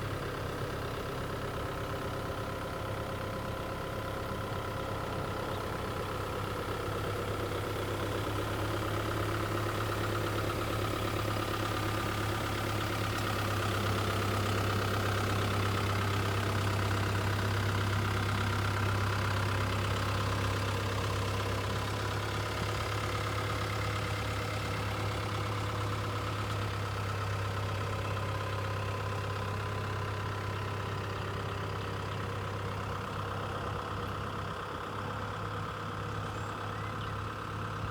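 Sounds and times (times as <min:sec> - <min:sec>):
excavator diesel engine droning: 0:00.0 - 0:37.9.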